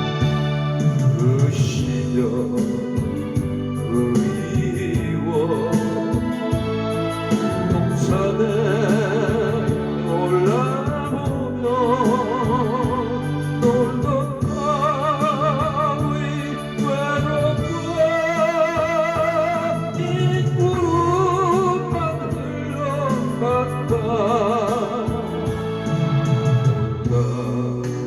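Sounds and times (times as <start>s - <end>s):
electronic keyboard: 0.0s - 28.0s
person singing with vibrato: 0.0s - 28.0s.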